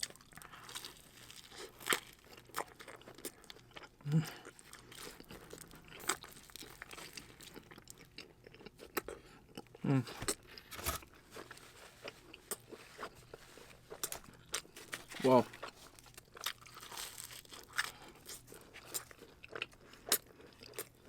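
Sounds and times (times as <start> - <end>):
chewing and crunching crust: 0.0 - 21.0.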